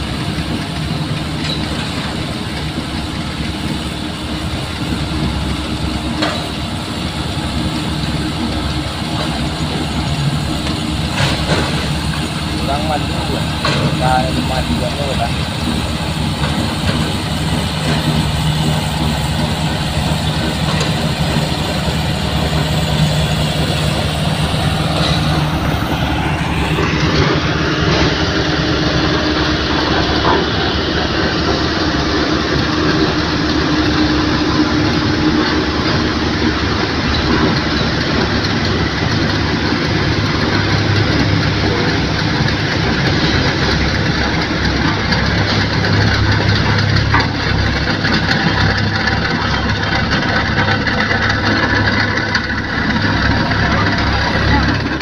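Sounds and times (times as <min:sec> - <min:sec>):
vehicle engines running: 0:00.0 - 0:55.0.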